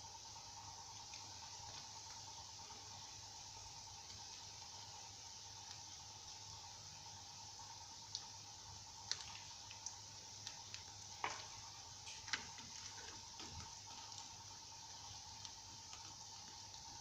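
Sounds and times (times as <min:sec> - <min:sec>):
eggs frying in hot oil: 0:00.0 - 0:17.0
oil popping and crackling: 0:00.5 - 0:06.8, 0:07.6 - 0:17.0.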